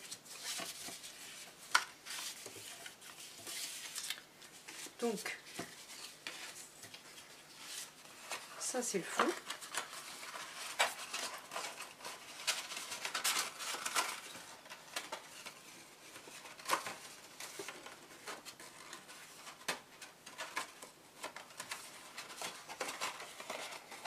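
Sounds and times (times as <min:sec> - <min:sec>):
paper rustling and crinkling: 0:00.0 - 0:24.0.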